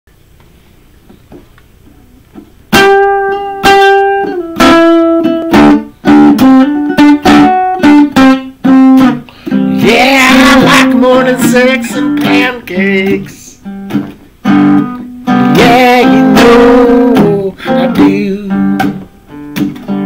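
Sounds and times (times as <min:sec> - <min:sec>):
guitar plucked notes: 0:01.3 - 0:20.0.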